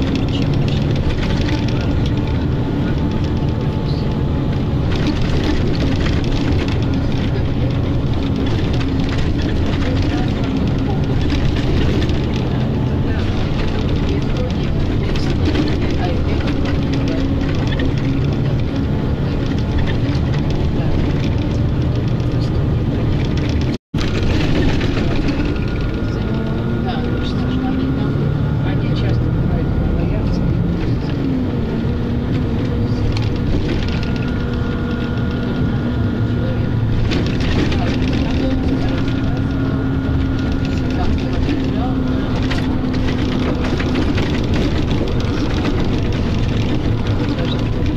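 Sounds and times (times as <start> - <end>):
vehicle rumble from inside: 0.0 - 47.9.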